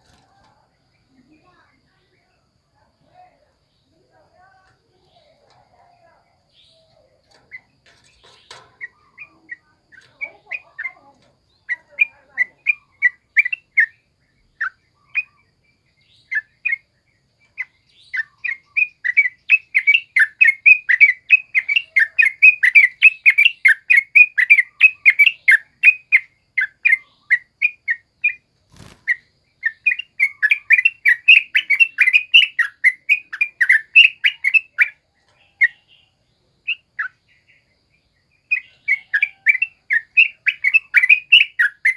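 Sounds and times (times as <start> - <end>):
bulbul singing: 0.0 - 41.9.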